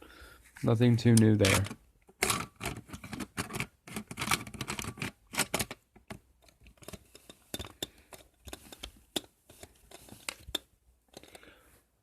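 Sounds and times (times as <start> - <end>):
plastic smoke detector handled: 1.2 - 11.4.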